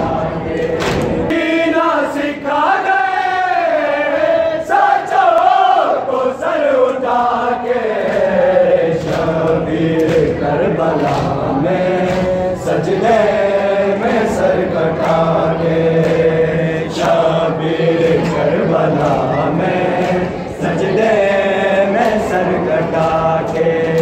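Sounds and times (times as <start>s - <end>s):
men chanting in unison: 0.0s - 24.0s.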